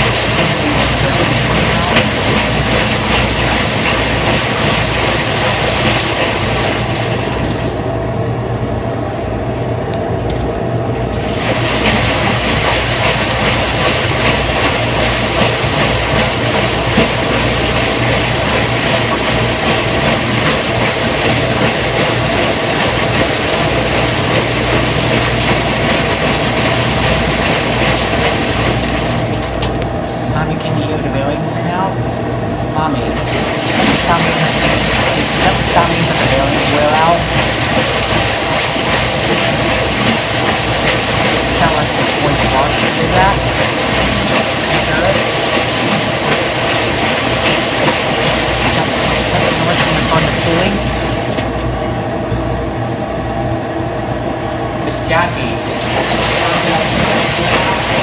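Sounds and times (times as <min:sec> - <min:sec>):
low hum: 0:00.0 - 0:58.0
washing machine rumbling: 0:00.0 - 0:58.0.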